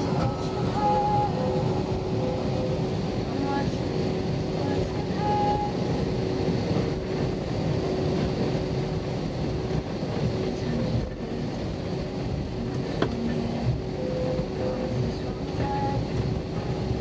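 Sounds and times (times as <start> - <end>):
engine and air-conditioning rush: 0.0 - 17.0
steady hum: 0.0 - 17.0.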